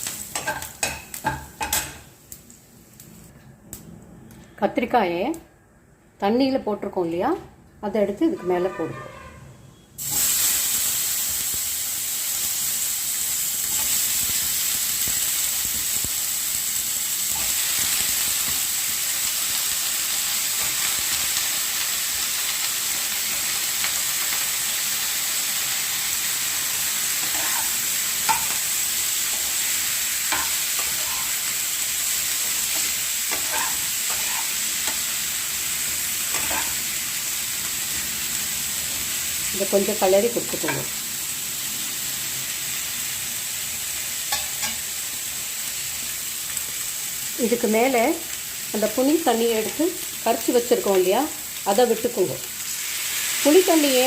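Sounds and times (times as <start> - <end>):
vegetables sizzling in hot oil: 0.0 - 3.3, 10.0 - 54.0.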